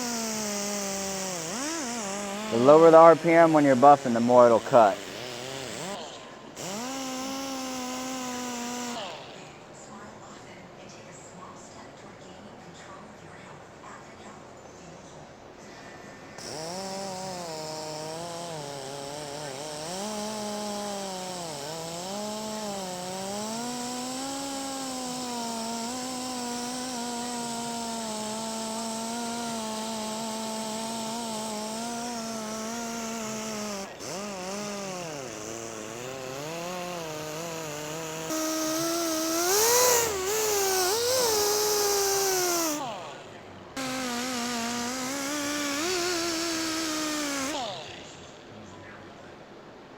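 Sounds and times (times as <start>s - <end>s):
rotary buffer motor whine: 0.0s - 10.5s, 16.3s - 49.1s.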